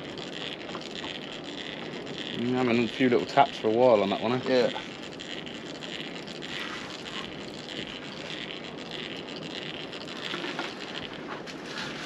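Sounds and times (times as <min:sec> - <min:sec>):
fishing reel scraping: 0:00.0 - 0:12.0
water hissing around a boat: 0:00.0 - 0:12.0.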